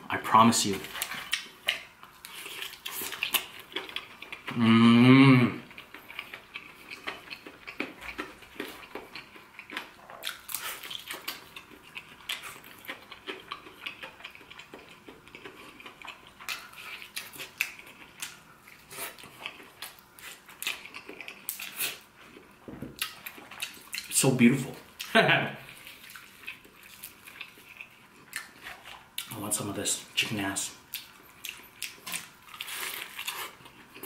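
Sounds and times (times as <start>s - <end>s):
chewing crispy fried chicken: 0.6s - 34.0s.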